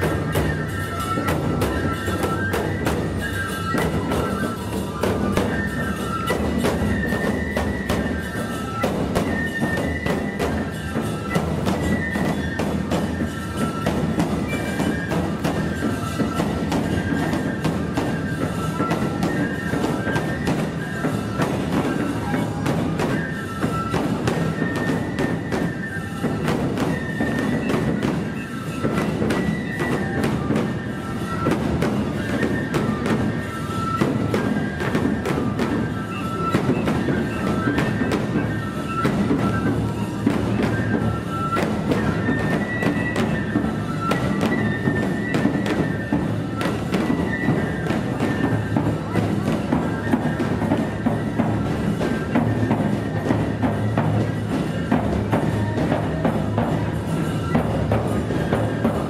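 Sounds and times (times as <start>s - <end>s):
bamboo flutes melody: 0.0s - 59.0s
taiko drums: 0.0s - 59.0s.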